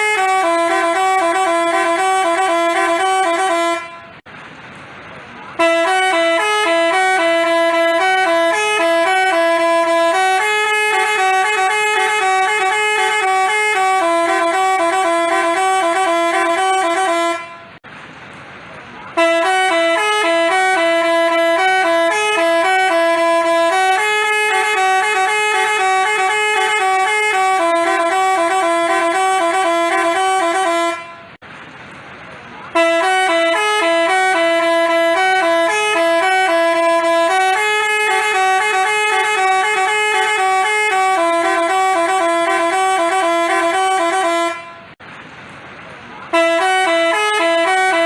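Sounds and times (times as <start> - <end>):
bus horn playing a tune: 0.0 - 4.3, 5.4 - 17.8, 19.1 - 31.4, 32.7 - 45.0, 46.3 - 48.0.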